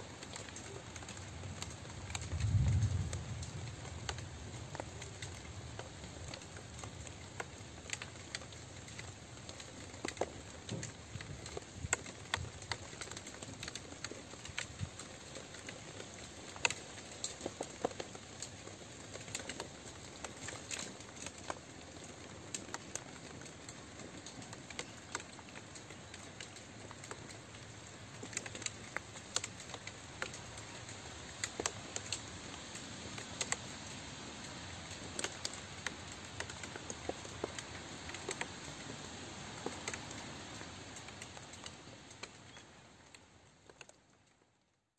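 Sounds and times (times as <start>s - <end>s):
steady rain with drop ticks: 0.0s - 44.9s.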